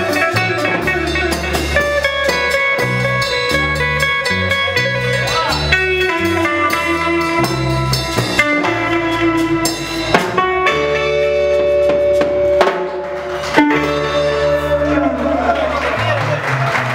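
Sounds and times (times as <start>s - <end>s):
electric bass: 0.0s - 16.9s
electric guitar: 0.0s - 16.9s.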